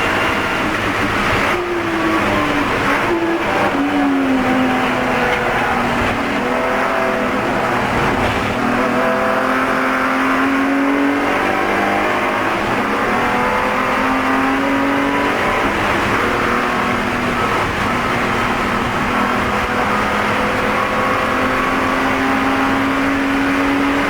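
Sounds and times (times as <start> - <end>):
race car engine revving: 0.0 - 24.0
road and wind noise: 0.0 - 24.0.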